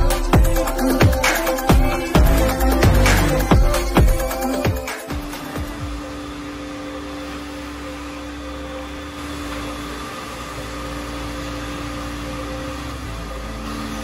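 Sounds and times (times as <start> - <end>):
vacuum sucking up slurry: 0.0 - 14.0
wet vacuum motor humming: 0.0 - 14.0.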